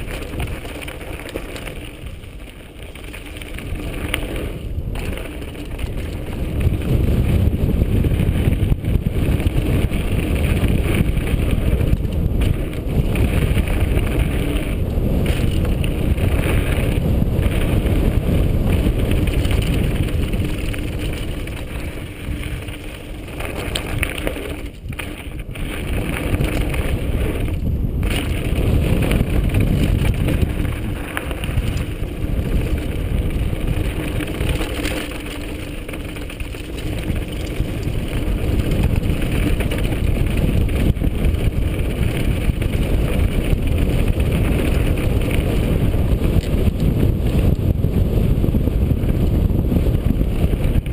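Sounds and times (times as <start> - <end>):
bike rattling over stones: 0.0 - 50.9
wind rushing over microphone: 0.0 - 50.9.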